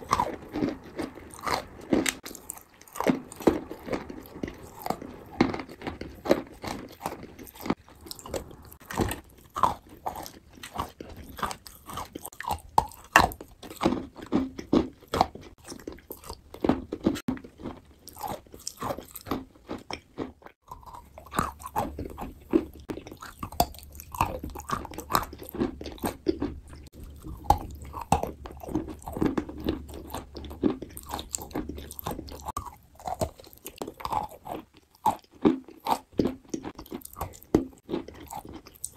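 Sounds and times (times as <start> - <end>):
wet chewing and crunching: 0.0 - 38.9.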